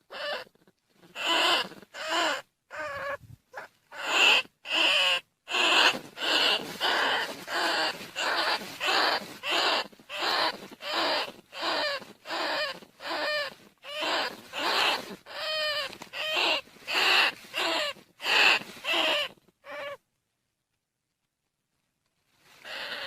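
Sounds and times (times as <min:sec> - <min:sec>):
recorded rat calls: 0:00.0 - 0:20.1, 0:22.5 - 0:23.0.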